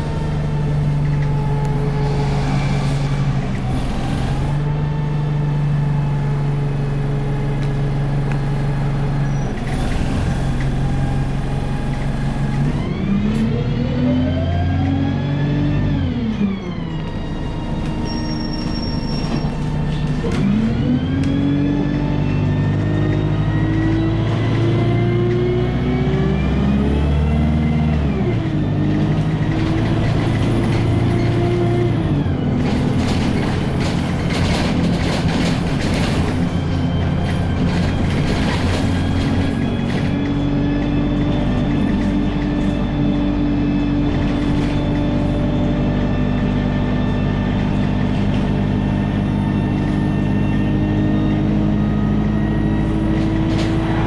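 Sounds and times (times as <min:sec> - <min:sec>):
bus diesel engine idling and revving: 0:00.0 - 0:54.0.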